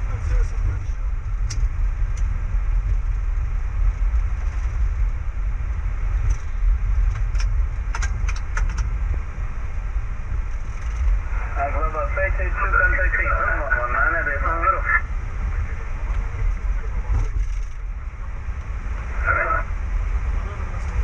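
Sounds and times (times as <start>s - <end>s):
airliner cockpit low rumble: 0.0s - 21.0s.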